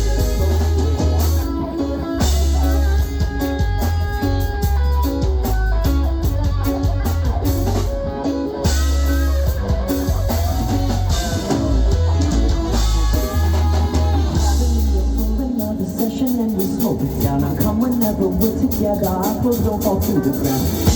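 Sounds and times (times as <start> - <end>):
drum kit: 0.0 - 20.9
electric guitar: 0.0 - 20.9
heavy bass line: 0.0 - 20.9.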